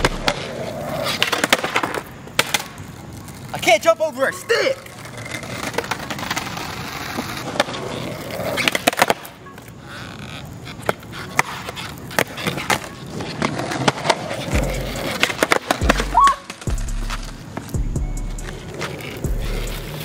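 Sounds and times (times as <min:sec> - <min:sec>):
skateboard deck clacking on concrete: 0:00.0 - 0:20.0
skateboard wheels rolling on concrete: 0:00.0 - 0:20.0.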